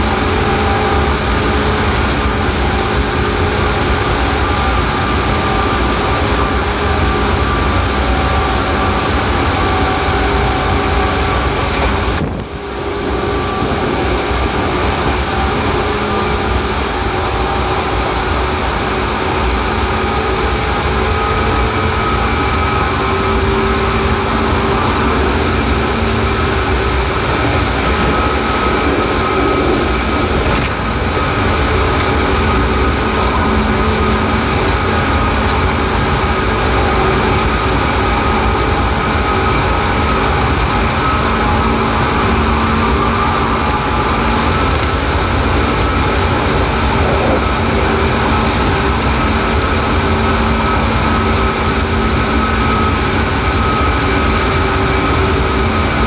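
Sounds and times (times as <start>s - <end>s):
electric train rumbling: 0.0s - 56.0s.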